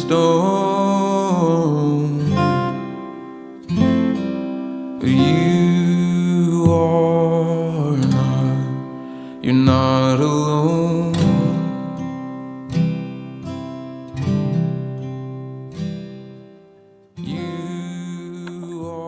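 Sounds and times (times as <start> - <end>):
acoustic guitar chords strummed: 0.0 - 19.0.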